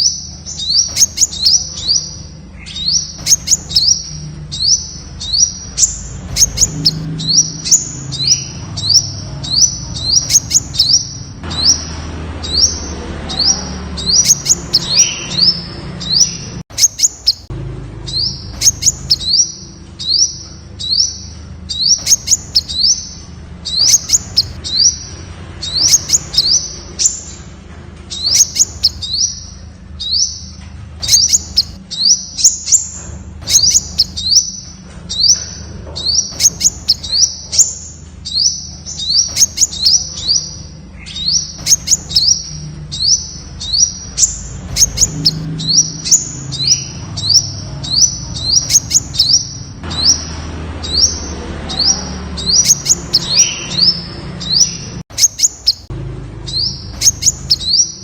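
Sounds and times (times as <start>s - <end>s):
bird chip notes: 0.0s - 55.9s, 56.5s - 58.0s.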